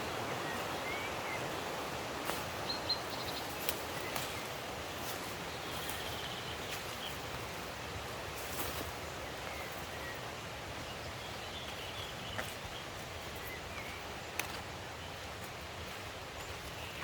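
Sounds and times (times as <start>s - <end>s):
forest stream rushing: 0.0s - 17.0s.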